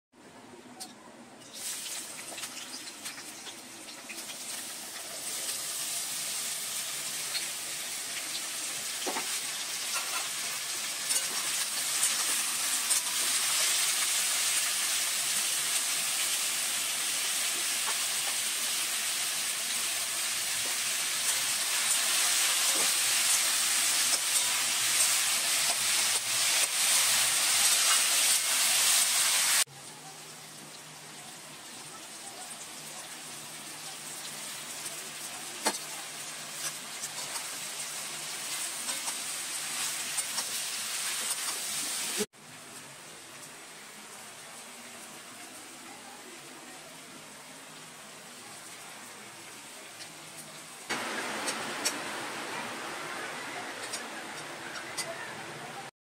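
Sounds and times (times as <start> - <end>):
vegetables sizzling in wok: 1.4 - 55.9.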